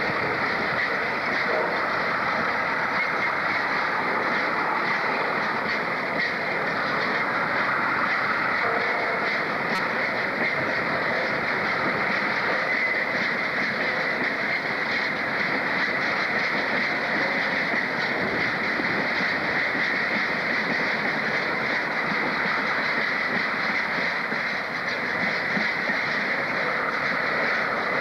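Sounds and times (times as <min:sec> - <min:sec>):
train running on rails: 0:00.0 - 0:28.0.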